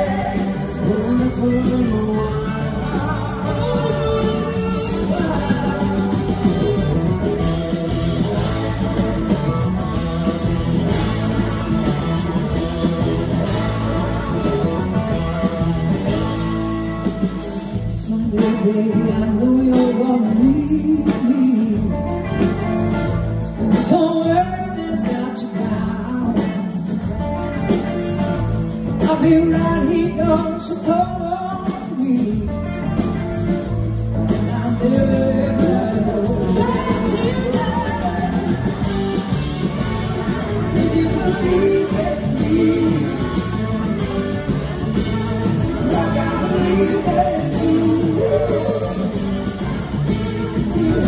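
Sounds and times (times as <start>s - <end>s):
blues-rock band playing: 0.0s - 51.0s
electric guitar lead: 0.0s - 51.0s.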